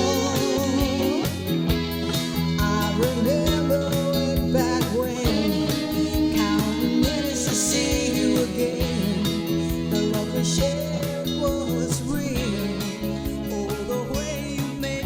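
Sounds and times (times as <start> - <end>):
song with guitar and drums: 0.0 - 15.0.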